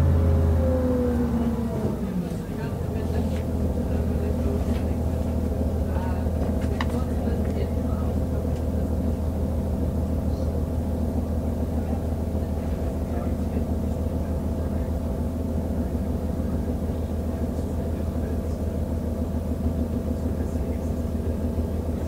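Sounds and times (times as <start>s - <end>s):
diesel railcar engine droning: 0.0s - 22.0s.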